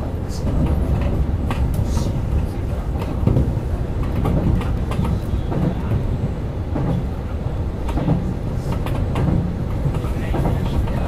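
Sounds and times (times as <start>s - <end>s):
train wheels rumbling on rails: 0.0s - 11.0s
wheels clacking over rail joints: 0.4s - 7.2s, 7.8s - 11.0s.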